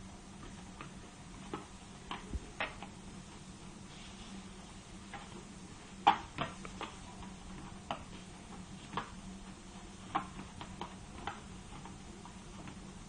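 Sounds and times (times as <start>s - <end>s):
treadmill humming: 0.0s - 13.0s.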